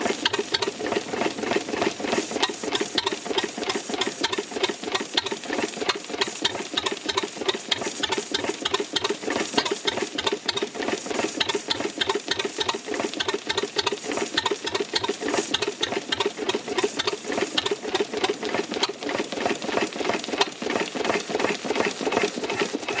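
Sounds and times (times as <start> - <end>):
stationary gas engine clattering: 0.0 - 23.0.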